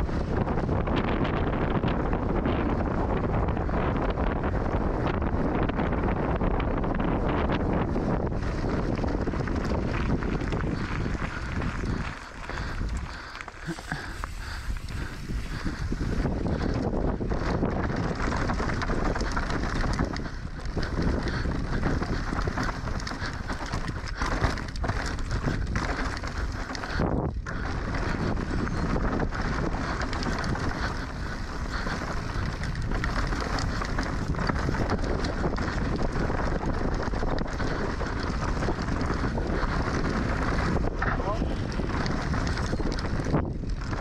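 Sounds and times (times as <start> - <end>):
bike rattling over rough trail: 0.0 - 44.0
wind rushing over microphone: 0.0 - 44.0.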